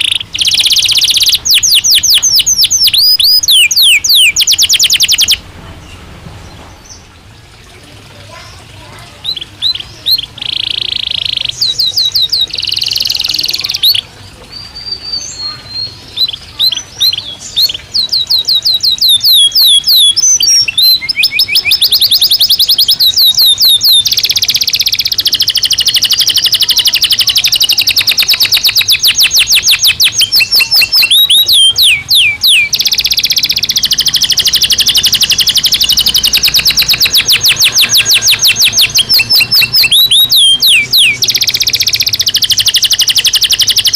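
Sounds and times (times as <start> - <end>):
canary singing: 0.0 - 7.3, 8.2 - 43.9.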